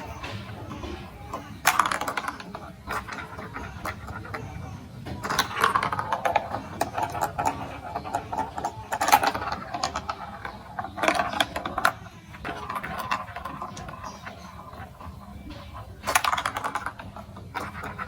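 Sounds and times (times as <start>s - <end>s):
plastic marble run clicking and rattling: 0.0s - 18.0s.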